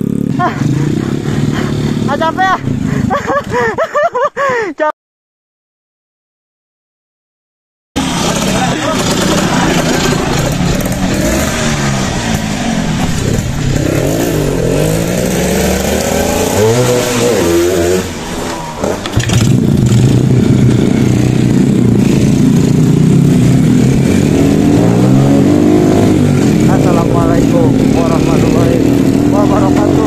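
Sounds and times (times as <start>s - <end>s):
motorcycle engine running: 0.0s - 3.7s, 8.0s - 30.0s
motorcycle engines revving: 0.0s - 3.8s, 8.0s - 30.0s.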